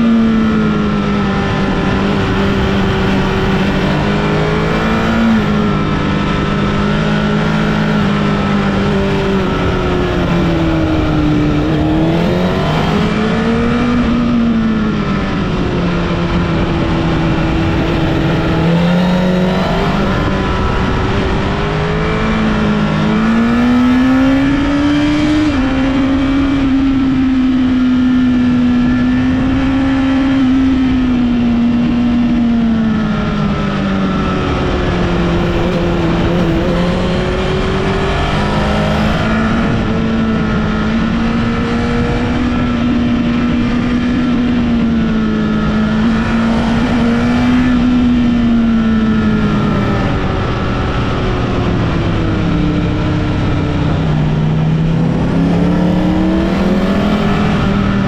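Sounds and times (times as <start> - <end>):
motorcycle engine revving: 0.0 - 58.0
rush of riding noise: 0.0 - 58.0.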